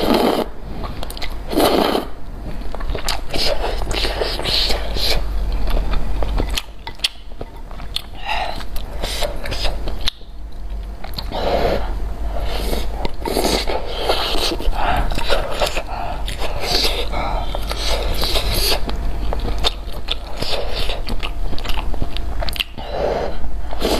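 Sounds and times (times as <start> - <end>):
chewing with mouth clicks: 0.8 - 1.4, 2.5 - 11.4, 12.5 - 22.8.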